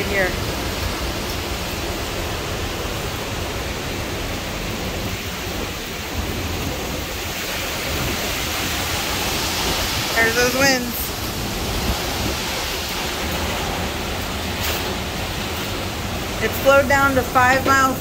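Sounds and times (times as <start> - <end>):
driving rain: 0.0 - 18.0
strong wind: 0.0 - 18.0.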